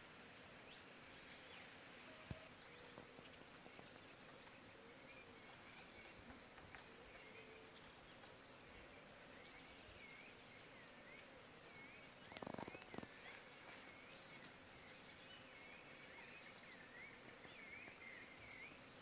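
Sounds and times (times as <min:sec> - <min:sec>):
high-pitched insect trill: 0:00.0 - 0:19.0.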